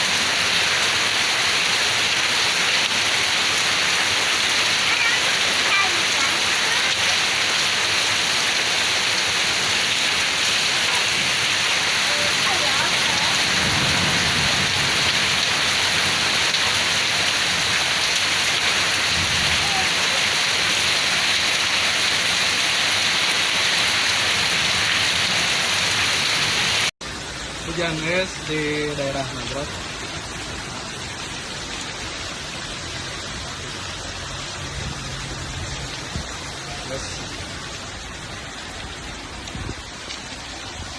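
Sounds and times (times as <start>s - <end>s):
heavy rain and hail: 0.0s - 40.9s.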